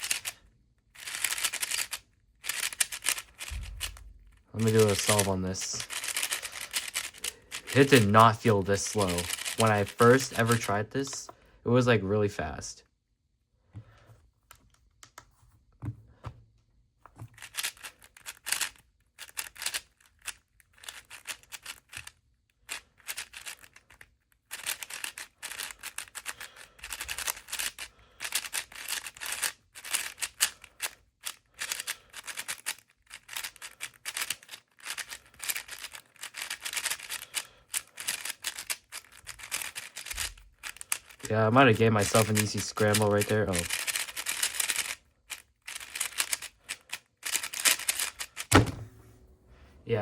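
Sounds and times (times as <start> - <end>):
puzzle cube clicking plastic: 0.0 - 11.3, 17.1 - 48.8.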